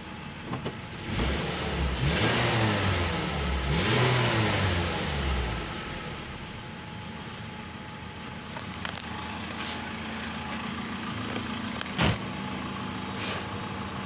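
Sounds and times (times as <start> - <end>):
car engine revving and idling: 0.1 - 14.0.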